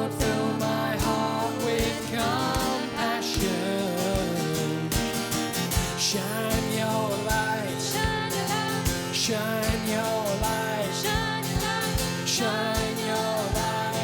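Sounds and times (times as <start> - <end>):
person singing: 0.0 - 5.4, 6.0 - 14.0
acoustic guitar: 0.0 - 14.0
steady beat: 0.0 - 14.0.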